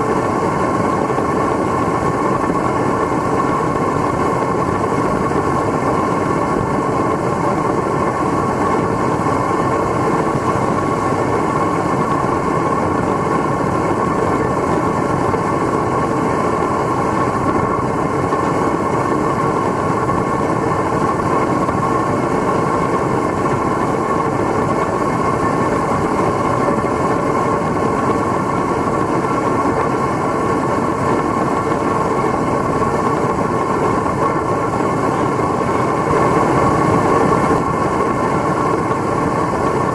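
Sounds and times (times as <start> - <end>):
foundry burner rushing: 0.0 - 39.9.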